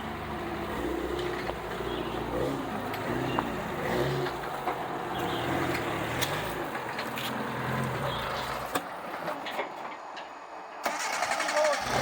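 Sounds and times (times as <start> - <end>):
off-road vehicle engine: 0.0 - 12.0.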